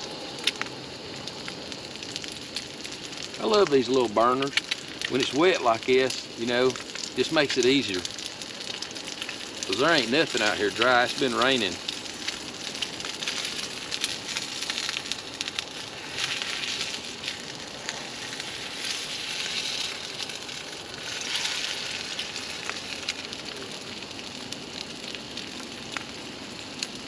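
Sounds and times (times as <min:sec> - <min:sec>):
eggs sizzling in a pan: 0:00.0 - 0:27.0.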